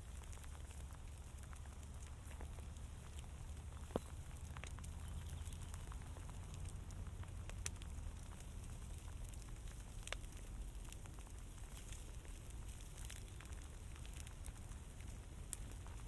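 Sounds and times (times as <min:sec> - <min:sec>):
fire crackling: 0:00.0 - 0:16.0
low steady rumble: 0:00.0 - 0:16.0.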